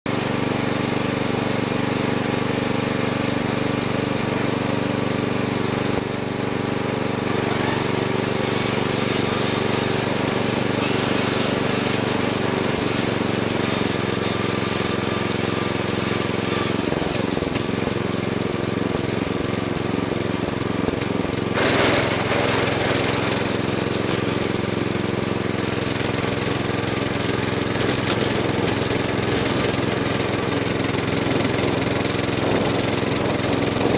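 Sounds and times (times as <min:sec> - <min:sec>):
riding lawn mower engine running: 0:00.1 - 0:33.9.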